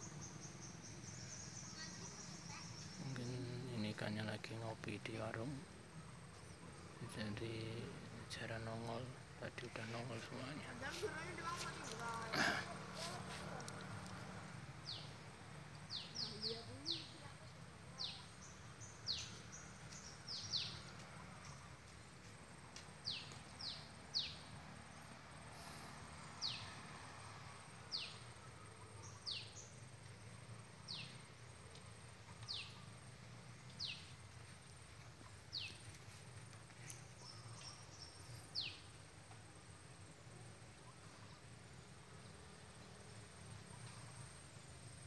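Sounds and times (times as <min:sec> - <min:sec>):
low outdoor hum: 0:00.0 - 0:45.0.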